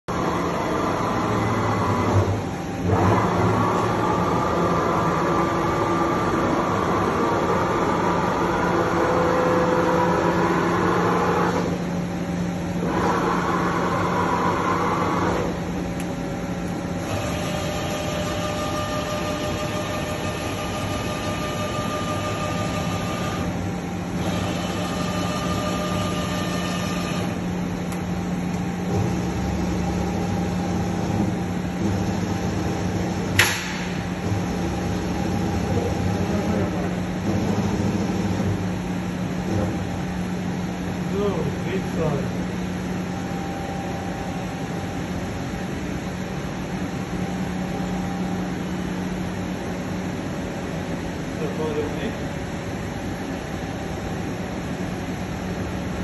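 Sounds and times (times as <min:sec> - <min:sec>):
machine humming and whining: 0:00.0 - 0:56.0.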